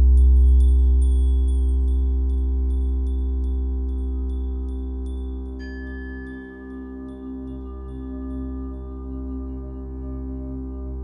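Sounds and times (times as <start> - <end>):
low ambient drone: 0.0 - 11.0.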